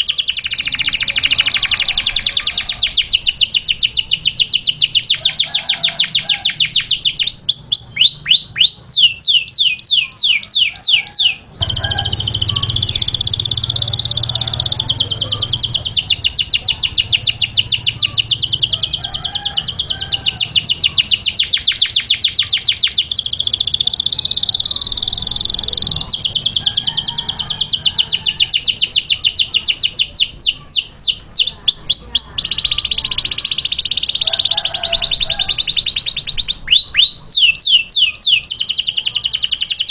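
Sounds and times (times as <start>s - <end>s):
canary singing trilled notes: 0.0s - 39.9s.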